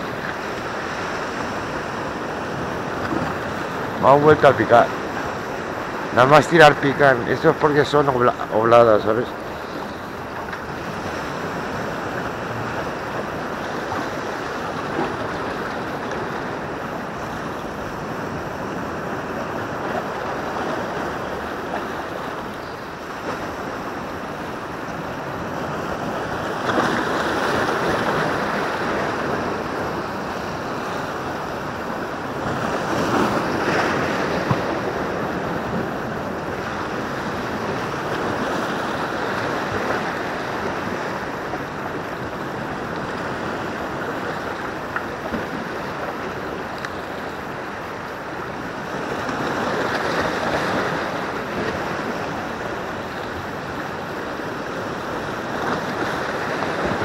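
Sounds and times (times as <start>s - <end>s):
waves washing against rocks: 0.0s - 57.0s.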